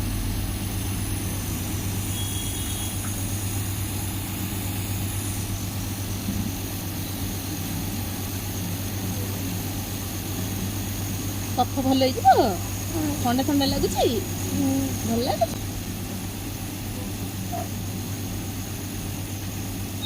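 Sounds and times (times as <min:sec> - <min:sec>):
nebulizer humming: 0:00.0 - 0:20.0.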